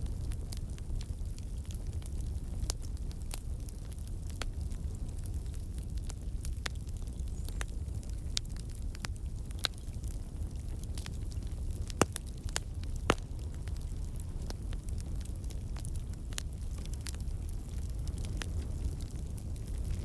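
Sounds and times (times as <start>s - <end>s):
campfire flames rumbling: 0.0s - 20.0s
wood crackling and popping: 0.0s - 20.0s.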